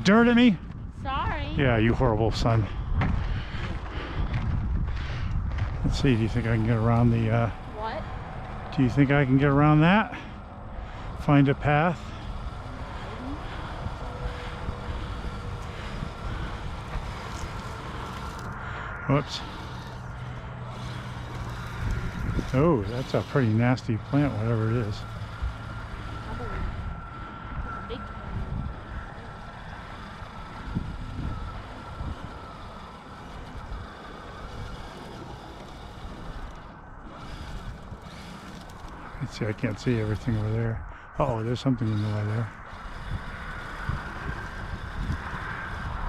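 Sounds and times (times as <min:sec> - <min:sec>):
low rumble: 0:00.0 - 0:46.0
rc crawler motor whine: 0:00.0 - 0:46.0
wind noise on microphone: 0:00.0 - 0:46.0.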